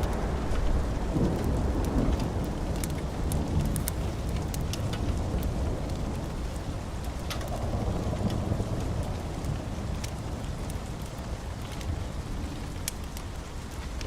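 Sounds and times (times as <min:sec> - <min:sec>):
low rumble of thunder: 0:00.0 - 0:14.0
steady rain: 0:00.0 - 0:14.0.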